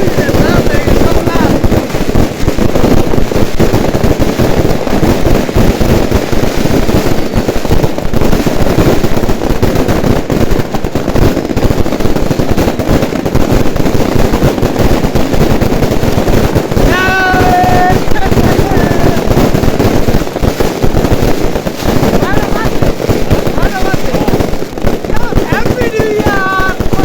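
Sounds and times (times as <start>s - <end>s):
fireworks banging and crackling: 0.0s - 27.0s.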